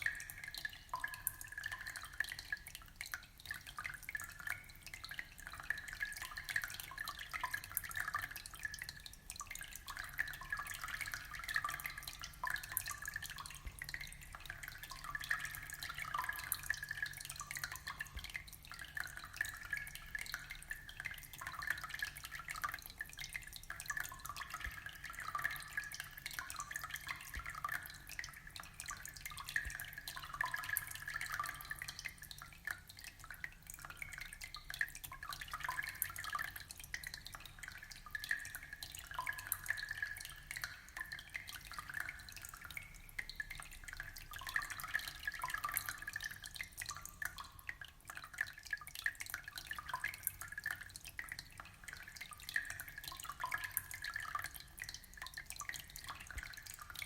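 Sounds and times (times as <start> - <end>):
aquarium water trickling and bubbling: 0.0 - 57.0.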